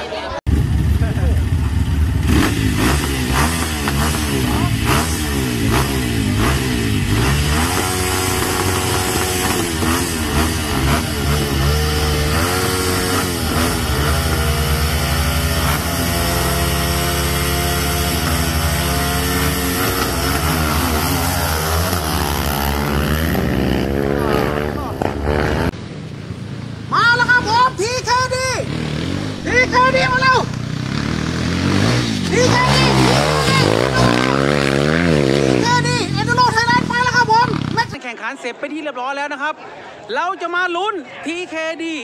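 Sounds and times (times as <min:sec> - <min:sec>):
dirt bike engines revving: 0:00.0 - 0:40.1.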